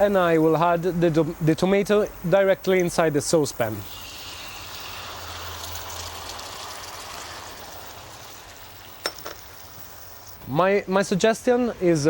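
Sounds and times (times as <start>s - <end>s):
tomatoes sizzling in oil: 0.0s - 11.0s.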